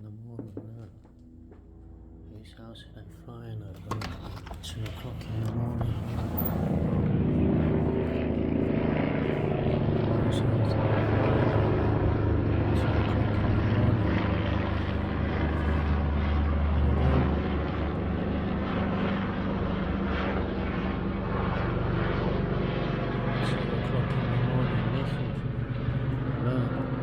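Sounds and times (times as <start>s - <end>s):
helicopter rotors droning: 0.0s - 27.0s.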